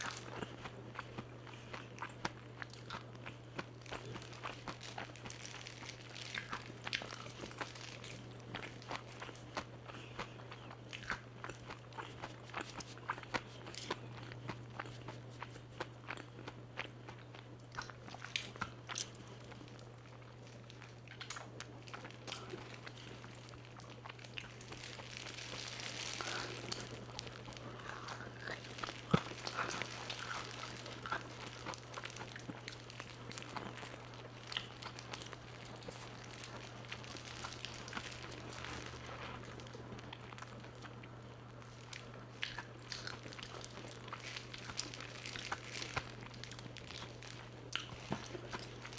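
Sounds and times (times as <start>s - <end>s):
crispy chicken crunching: 0.0s - 48.9s
steady low hum: 0.0s - 48.9s.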